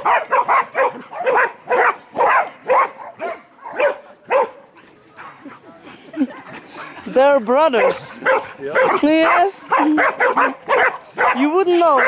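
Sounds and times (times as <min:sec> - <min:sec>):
dogs barking in play: 0:00.0 - 0:12.0.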